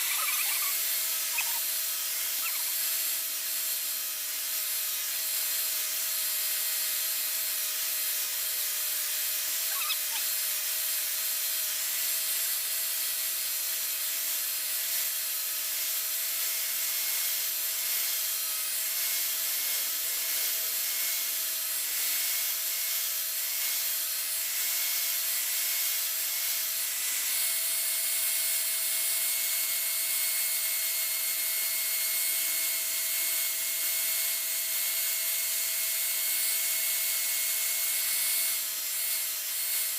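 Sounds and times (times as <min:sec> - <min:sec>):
grinder on steel blade: 0:00.0 - 0:39.9.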